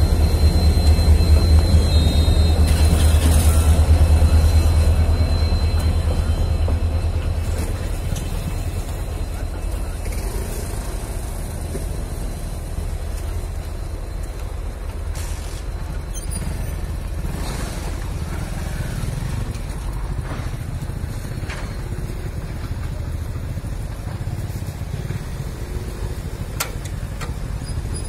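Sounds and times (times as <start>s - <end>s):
diesel locomotive engine rumbling: 0.0s - 28.0s.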